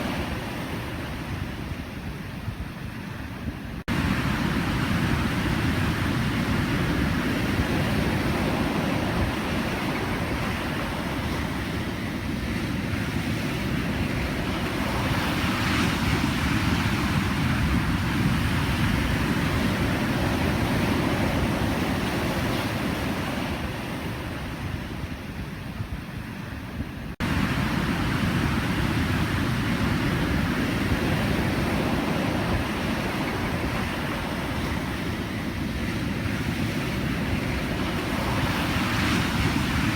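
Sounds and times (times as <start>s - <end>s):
surf breaking waves: 0.0s - 39.9s.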